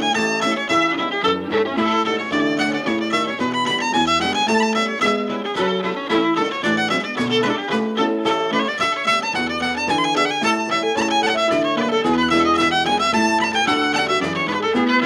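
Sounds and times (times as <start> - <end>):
fiddle playing a hornpipe: 0.0 - 15.0.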